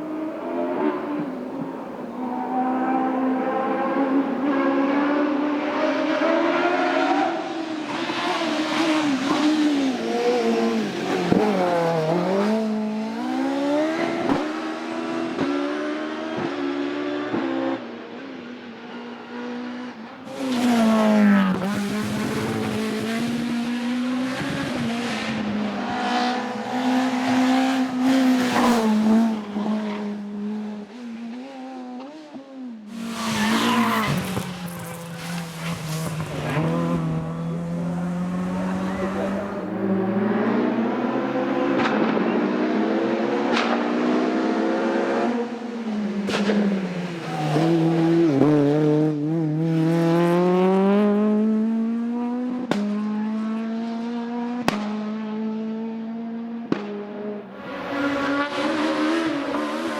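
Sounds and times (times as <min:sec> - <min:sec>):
racing car engines at hard throttle: 0:00.0 - 0:59.9.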